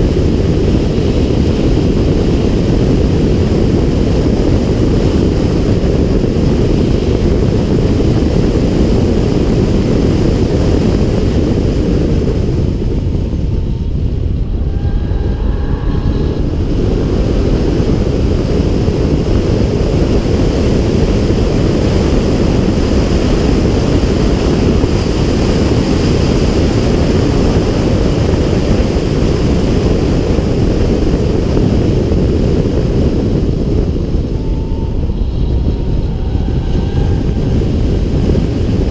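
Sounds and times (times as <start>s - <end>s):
wind rushing over camera: 0.0s - 38.9s.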